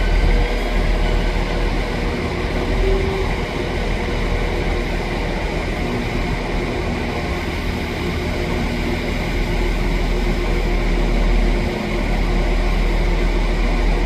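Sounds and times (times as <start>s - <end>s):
train running: 0.0s - 14.0s.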